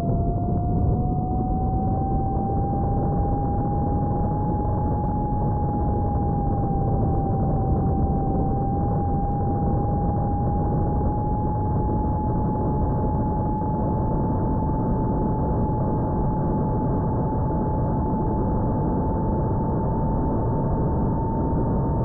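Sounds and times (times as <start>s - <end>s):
wind noise: 0.0s - 22.0s.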